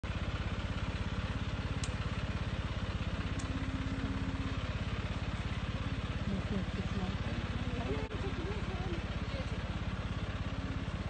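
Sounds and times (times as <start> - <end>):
engine pulsing steadily: 0.0 - 11.0.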